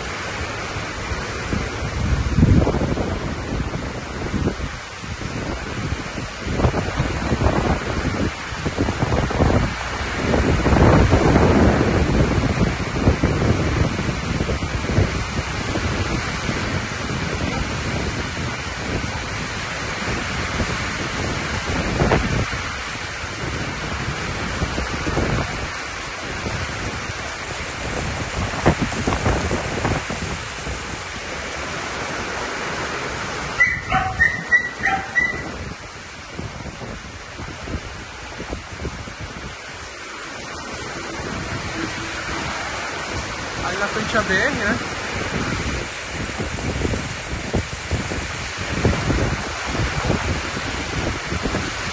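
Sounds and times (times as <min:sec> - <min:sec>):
gusting wind: 0:00.0 - 0:51.9
heavy rain on metal roof: 0:00.0 - 0:51.9.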